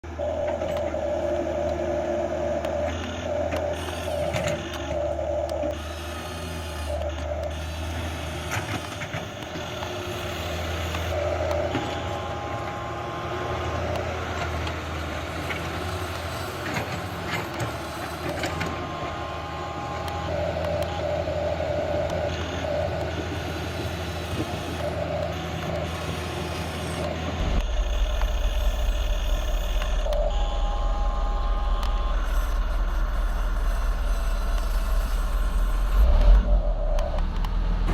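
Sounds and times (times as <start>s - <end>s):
low engine-like hum: 0.0s - 37.9s
mechanical whirring: 0.0s - 37.9s.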